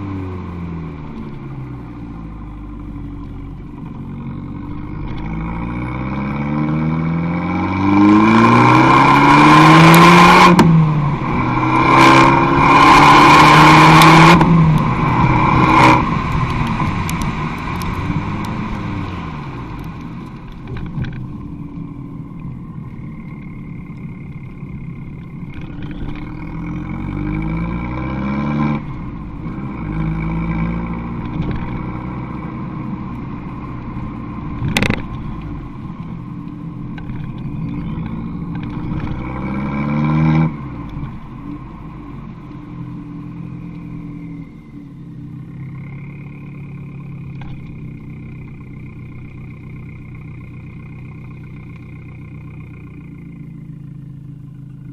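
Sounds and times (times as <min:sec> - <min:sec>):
car engine accelerating: 0:00.0 - 0:54.9
exhaust crack: 0:00.0 - 0:54.9.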